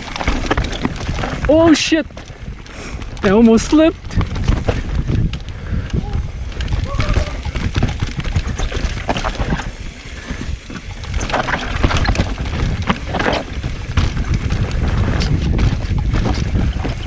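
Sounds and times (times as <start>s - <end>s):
bike tyres rattling over dirt: 0.0s - 17.0s
wind rumble on microphone: 0.0s - 17.0s.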